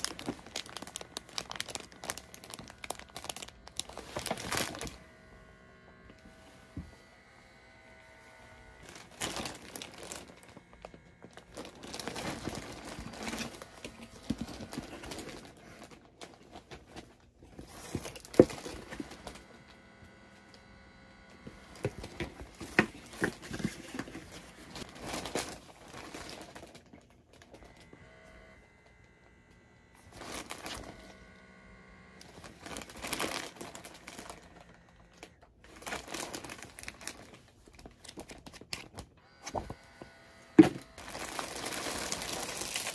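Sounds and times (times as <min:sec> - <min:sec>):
rustling and crinkling: 0:00.0 - 0:07.1, 0:08.2 - 0:20.2, 0:21.4 - 0:28.6, 0:30.1 - 0:31.4, 0:32.2 - 0:42.9.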